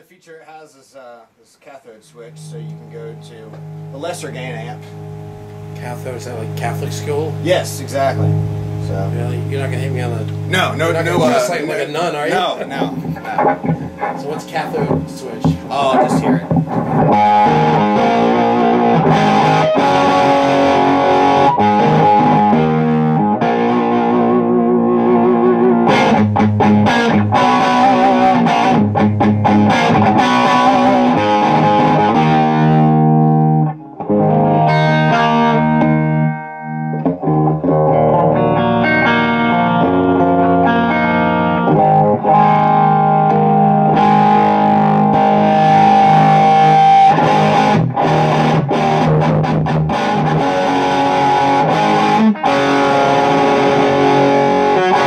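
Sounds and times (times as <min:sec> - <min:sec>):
distorted electric guitar: 0:02.2 - 0:55.0.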